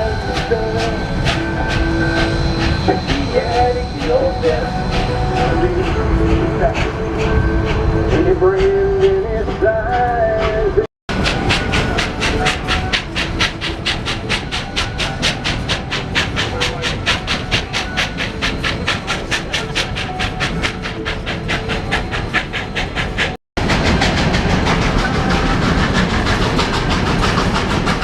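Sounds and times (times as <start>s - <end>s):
rumble of train cars: 0.0s - 28.0s
steam locomotive chuffing: 0.0s - 28.0s.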